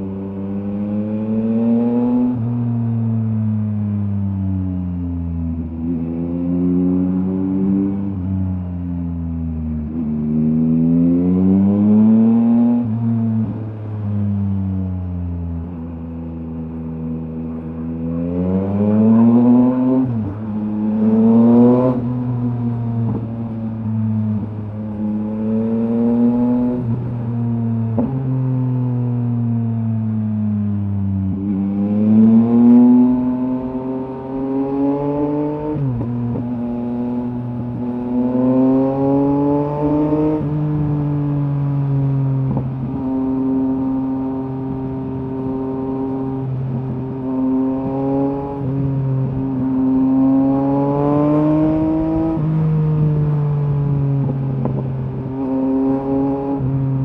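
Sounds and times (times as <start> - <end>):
motorcycle engine accelerating: 9.4 - 57.0.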